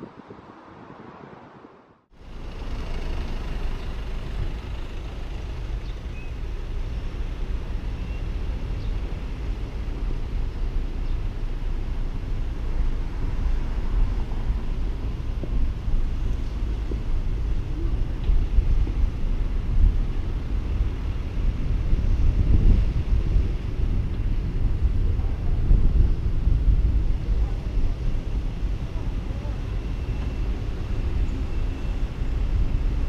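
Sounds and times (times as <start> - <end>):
car tyre and engine rumble: 0.0 - 33.0.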